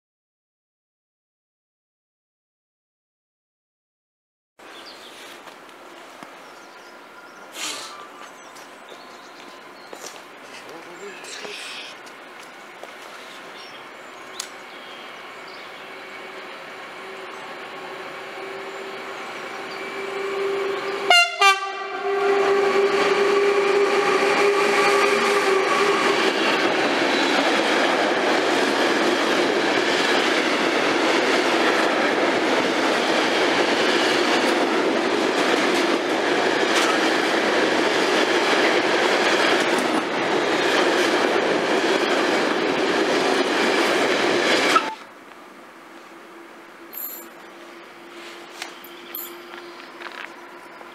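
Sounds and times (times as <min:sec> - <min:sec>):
freight train passing: 0:04.6 - 0:50.9.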